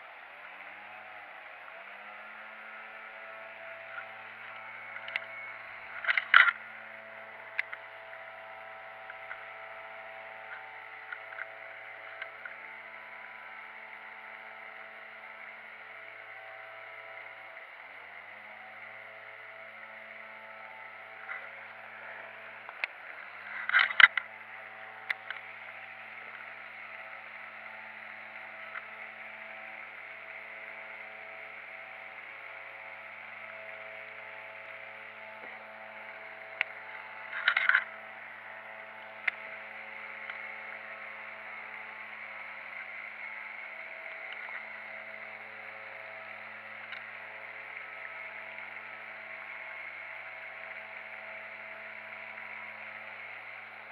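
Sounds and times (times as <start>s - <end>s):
fishing reel whirring: 0.1s - 53.9s.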